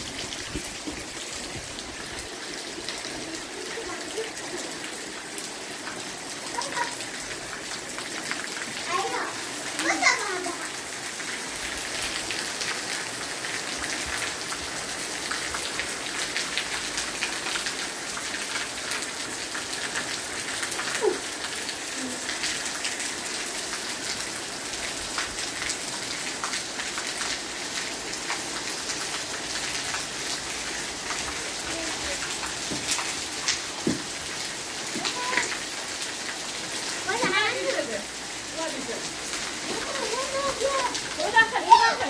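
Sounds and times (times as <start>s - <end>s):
rain falling on concrete: 0.0s - 42.0s.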